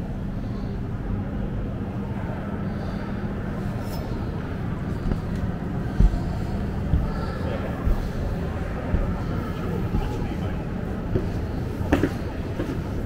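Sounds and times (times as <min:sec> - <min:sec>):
indoor hall murmur: 0:00.0 - 0:13.0.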